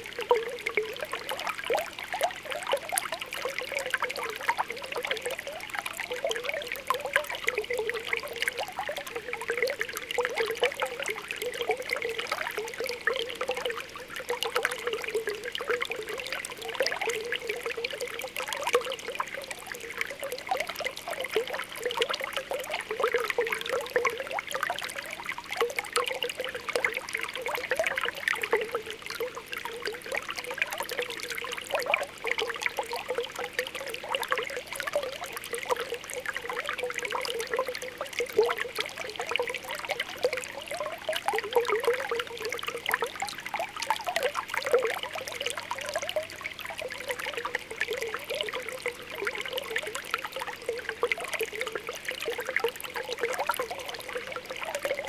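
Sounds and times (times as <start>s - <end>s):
light water trickle: 0.0s - 55.0s
water bubbling and popping: 0.0s - 55.0s.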